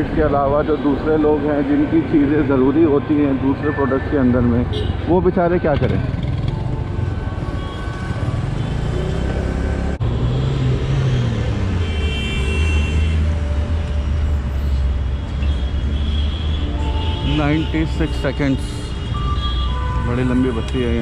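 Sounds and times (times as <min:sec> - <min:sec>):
rumble of road traffic: 0:00.0 - 0:21.0
traffic idling and passing: 0:00.0 - 0:21.0.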